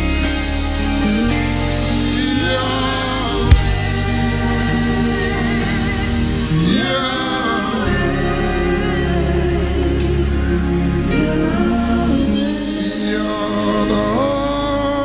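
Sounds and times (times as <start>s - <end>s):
singers' voices: 0.0s - 15.0s
sustained low chords: 0.0s - 15.0s.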